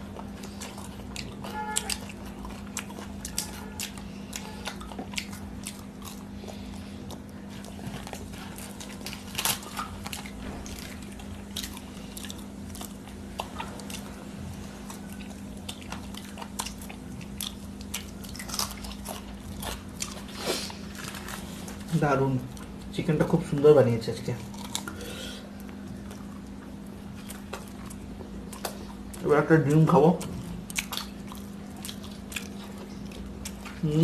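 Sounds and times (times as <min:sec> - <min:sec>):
people chewing and biting food: 0:00.0 - 0:34.0.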